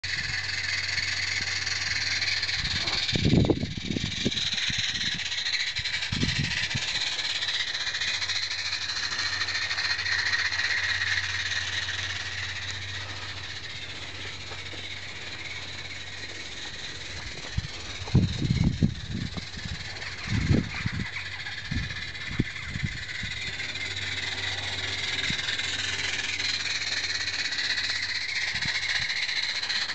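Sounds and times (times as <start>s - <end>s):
steam locomotive exhaust chuff: 0.0s - 29.9s.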